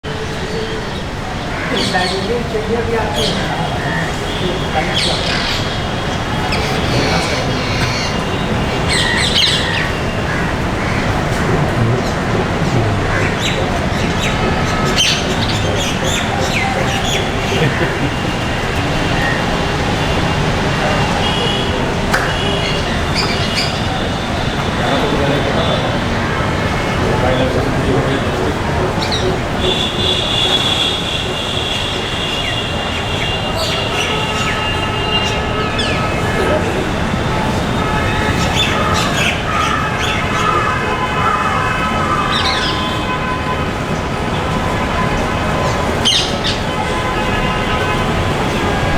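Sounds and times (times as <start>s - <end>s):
traffic noise: 0.0s - 48.9s
parakeets screeching: 0.1s - 43.4s, 44.6s - 48.9s.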